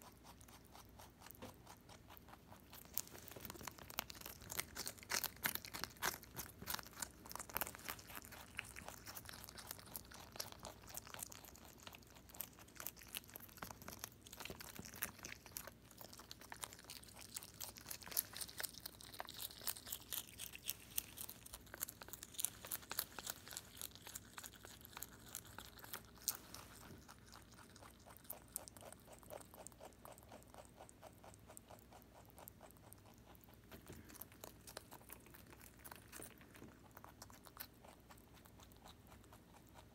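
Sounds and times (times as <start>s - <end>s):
rabbit crunching leaf: 0.0s - 39.9s.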